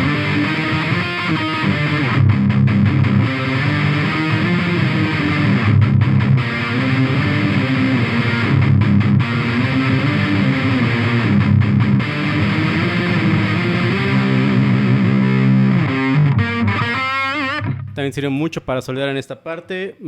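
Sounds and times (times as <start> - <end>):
distorted electric guitar riff: 0.0 - 18.1.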